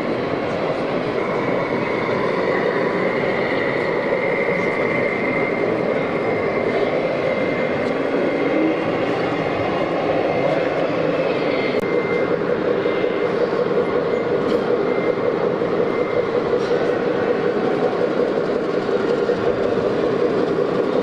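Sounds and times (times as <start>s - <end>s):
faint high whine: 0.0s - 21.0s
steady mechanical running noise: 0.0s - 21.0s.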